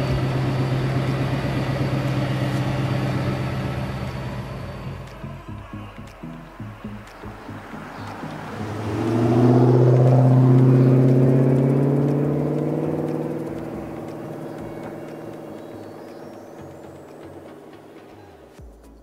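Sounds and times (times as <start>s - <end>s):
car driving past: 0.0s - 18.6s.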